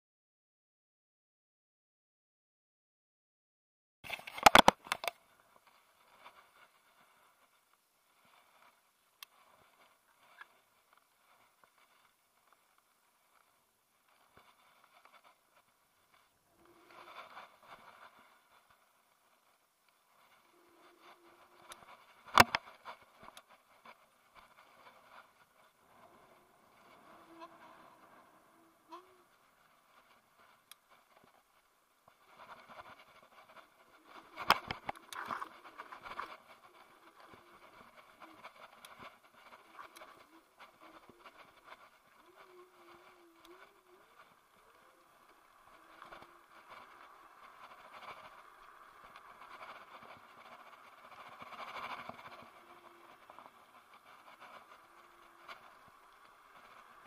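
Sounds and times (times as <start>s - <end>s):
scooter tyres on rough asphalt: 4.1s - 57.0s.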